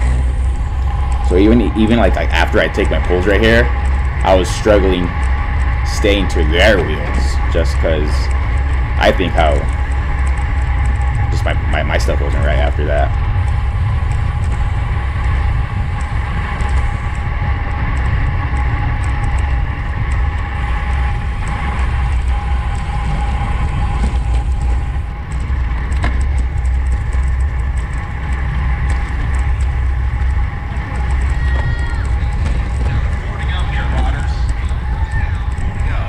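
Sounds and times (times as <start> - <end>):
faint steady whine: 0.0 - 36.0
road and tyre noise: 0.0 - 36.0
sharp clicks from bike: 0.0 - 36.0
wind buffeting microphone: 0.0 - 36.0.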